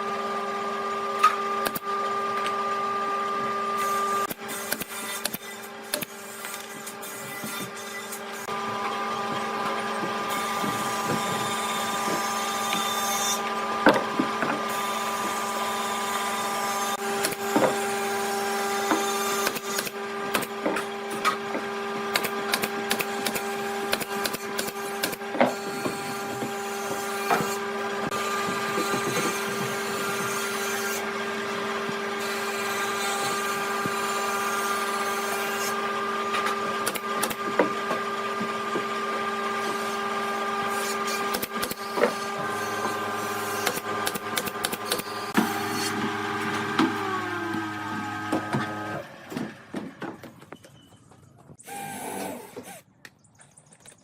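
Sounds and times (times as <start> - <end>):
power tool motor whine: 0.0 - 49.7, 51.6 - 52.9.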